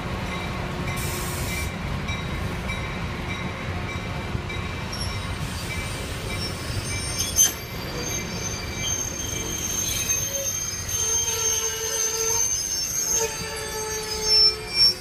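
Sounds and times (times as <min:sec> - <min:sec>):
low rumble of moving train: 0:00.0 - 0:15.0
train wheels squealing on rails: 0:00.3 - 0:15.0.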